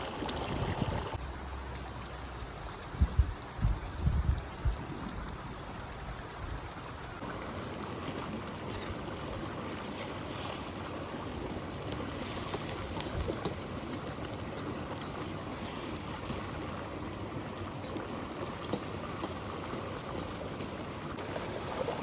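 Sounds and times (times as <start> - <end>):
river flowing: 0.0 - 2.9, 5.8 - 22.0.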